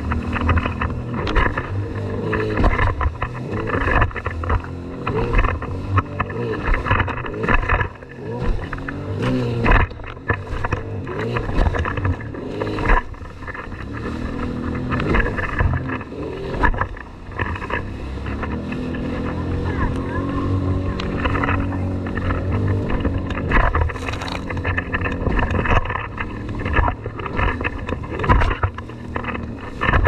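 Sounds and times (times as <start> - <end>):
hull slapping waves: 0.0 - 30.0
jet ski engine: 0.0 - 30.0.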